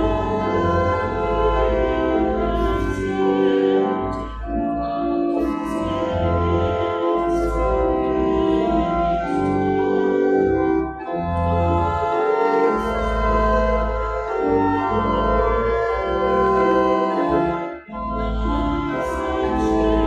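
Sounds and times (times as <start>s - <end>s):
congregation singing: 0.0s - 10.3s, 12.2s - 20.0s
church organ playing: 0.0s - 20.0s.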